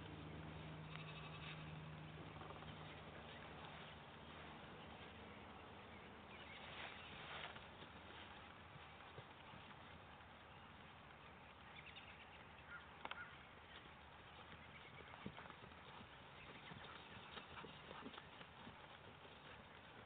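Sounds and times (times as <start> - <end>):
horse hoofbeats on grass: 0.0 - 20.0.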